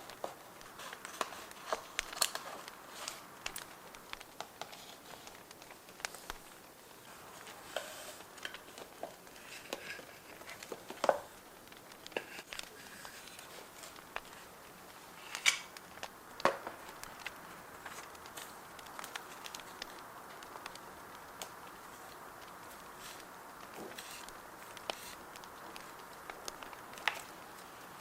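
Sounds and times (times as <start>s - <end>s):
faint bonfire crackle: 0.0s - 28.0s
paper rustling and crinkling: 0.0s - 28.0s.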